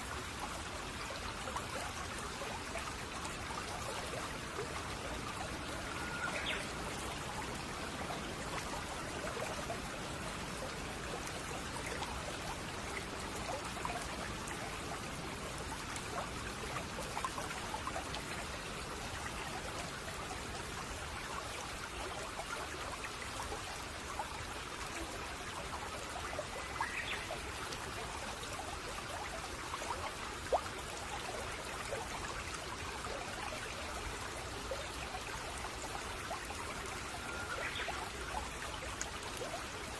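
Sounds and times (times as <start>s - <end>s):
stream burbling over stones: 0.0s - 39.9s.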